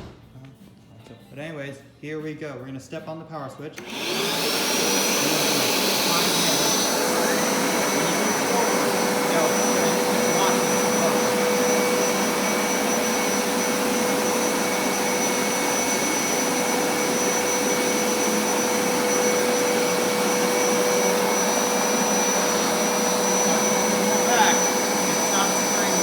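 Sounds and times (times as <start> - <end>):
carpet cleaner motor whirring: 3.8 - 26.0.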